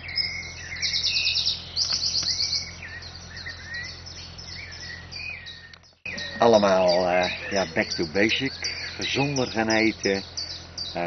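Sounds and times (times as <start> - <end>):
bird high trills: 0.0 - 11.0
songbirds singing: 0.0 - 11.0.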